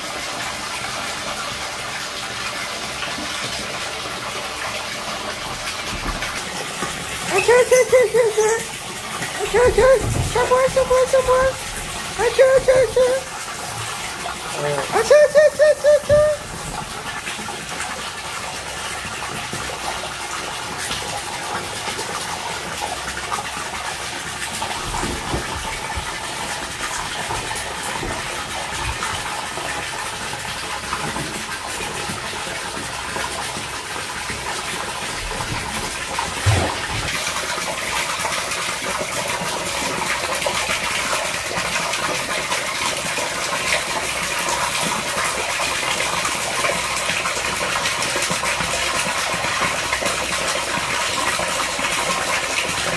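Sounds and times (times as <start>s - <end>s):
water pouring into pool: 0.0s - 52.9s.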